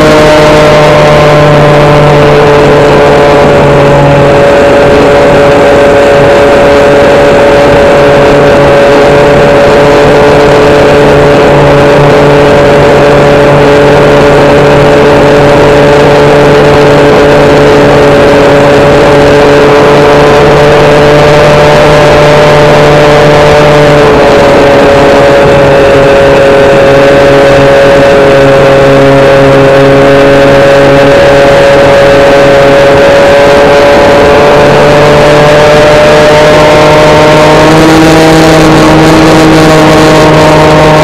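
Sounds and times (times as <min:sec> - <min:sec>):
electric motor and propeller drone: 0:00.0 - 0:41.0
wind rush: 0:00.0 - 0:41.0.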